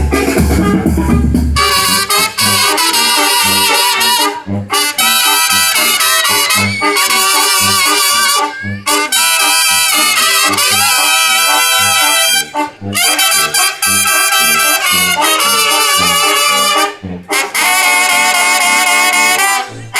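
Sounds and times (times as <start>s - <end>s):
low bass notes: 0.0s - 19.9s
trumpets and trombones melody: 0.0s - 19.9s.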